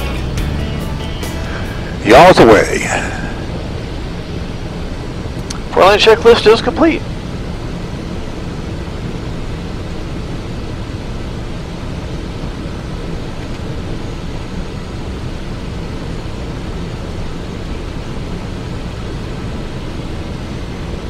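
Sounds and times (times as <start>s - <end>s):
airflow rushing over airframe: 0.0s - 21.0s
jet engines humming: 0.0s - 21.0s.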